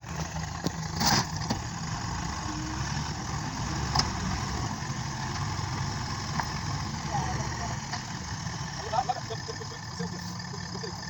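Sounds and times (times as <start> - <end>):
heavy machine engine idling: 0.0 - 11.0.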